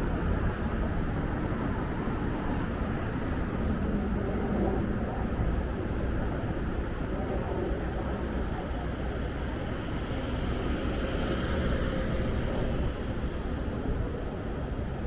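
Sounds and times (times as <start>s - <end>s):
steady traffic: 0.0s - 15.0s.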